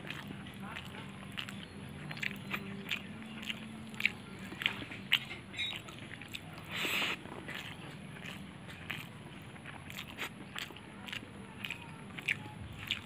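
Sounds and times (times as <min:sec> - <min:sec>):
wet chewing with lip smacks: 0:00.0 - 0:13.0.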